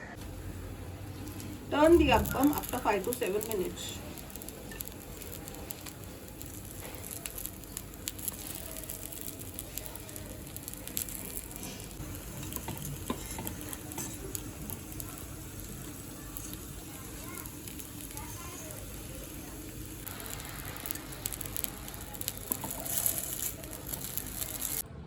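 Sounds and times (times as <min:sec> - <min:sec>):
batter sizzling in a pan: 0:00.2 - 0:24.8.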